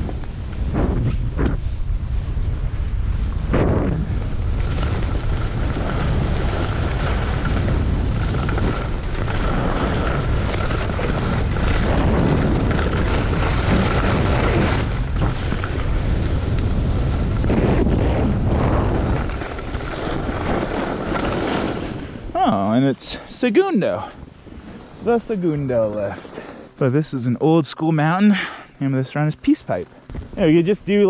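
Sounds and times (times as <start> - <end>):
wind buffeting microphone: 0.0 - 26.2, 29.9 - 31.0.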